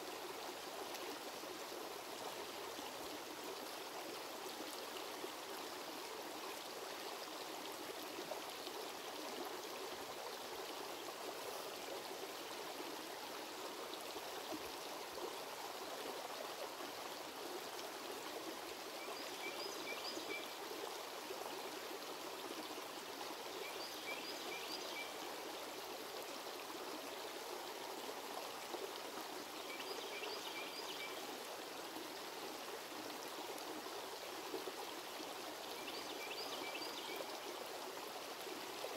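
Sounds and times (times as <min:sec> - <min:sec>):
creek trickling over stones: 0:00.0 - 0:38.9.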